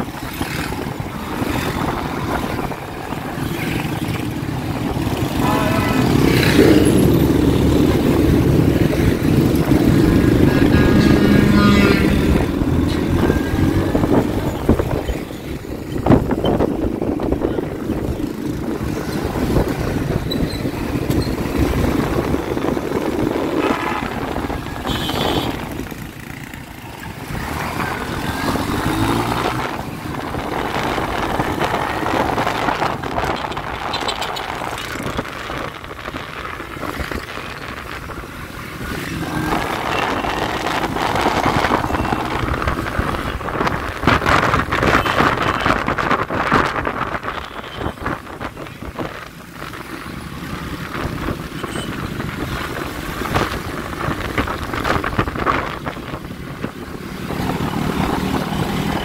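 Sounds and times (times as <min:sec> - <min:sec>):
busy street traffic: 0:00.0 - 0:59.0.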